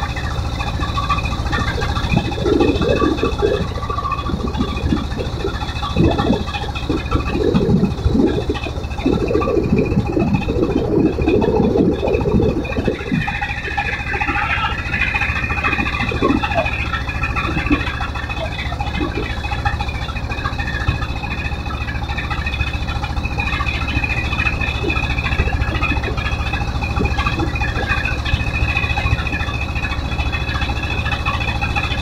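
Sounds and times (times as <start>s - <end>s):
boat engine pulsing: 0.0s - 32.0s
water splashing along hull: 0.0s - 32.0s.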